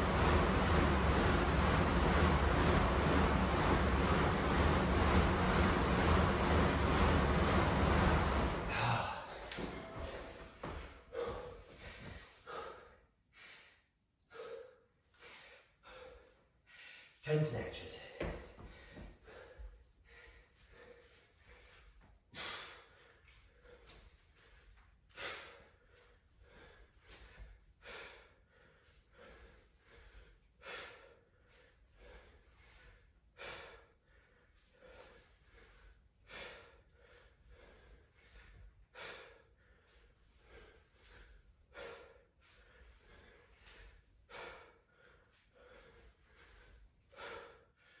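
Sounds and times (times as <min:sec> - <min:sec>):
man breathing hard: 0:08.6 - 0:17.2, 0:18.2 - 0:48.0.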